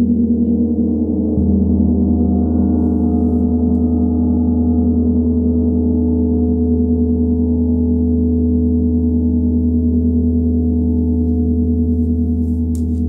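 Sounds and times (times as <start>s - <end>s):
large gong ringing: 0.0s - 13.0s.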